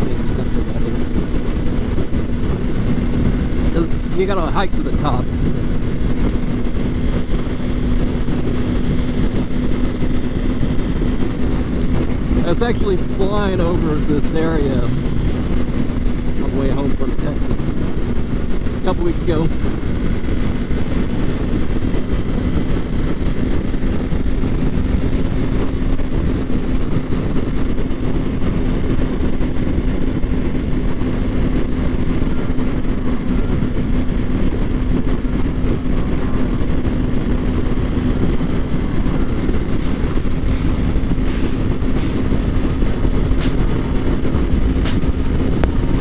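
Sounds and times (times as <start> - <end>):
motorcycle engine cruising: 0.0 - 46.0
wind noise on microphone: 0.0 - 46.0.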